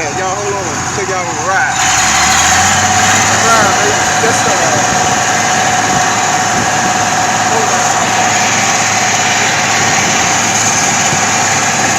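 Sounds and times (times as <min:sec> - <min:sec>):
constant engine whine: 0:00.0 - 0:11.9
truck engine running: 0:00.0 - 0:11.9.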